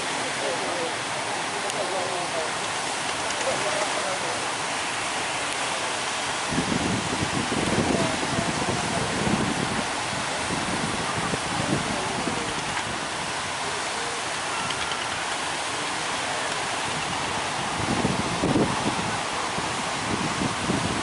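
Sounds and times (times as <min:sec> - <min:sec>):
ocean surf breaking: 0:00.0 - 0:21.0
wind gusting on microphone: 0:02.4 - 0:21.0.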